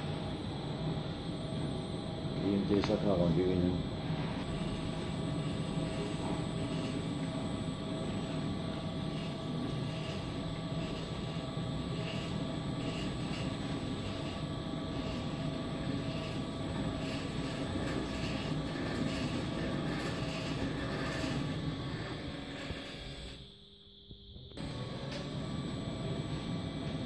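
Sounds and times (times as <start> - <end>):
mechanical drone with held tones: 0.0 - 27.0.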